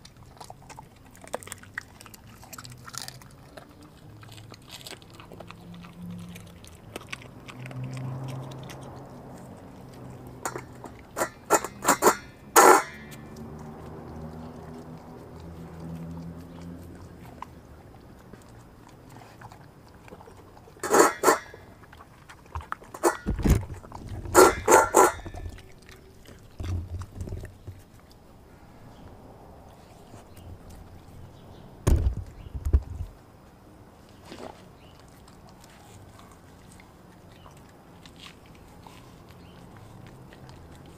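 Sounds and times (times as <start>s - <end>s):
dog crunching bones: 0.0s - 28.4s, 34.1s - 40.9s.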